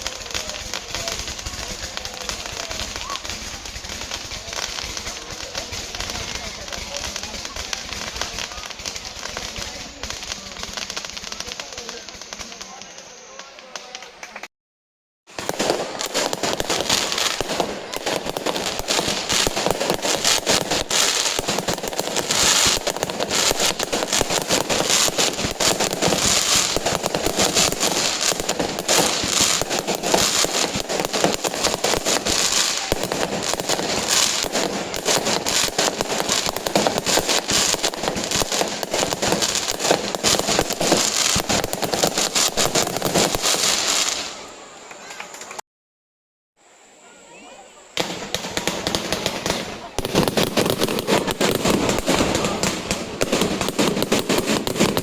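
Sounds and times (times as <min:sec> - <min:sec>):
fireworks crackling and popping: 0:00.0 - 0:14.5, 0:15.3 - 0:45.6, 0:47.0 - 0:55.0.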